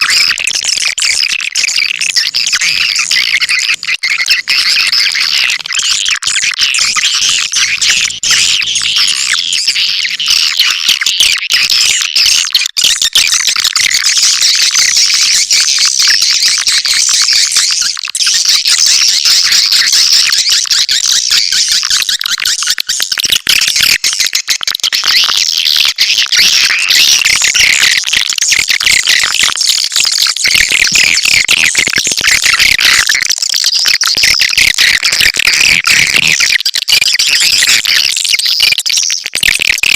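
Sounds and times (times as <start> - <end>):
swiftlets chirping and twittering: 0.0 - 39.9.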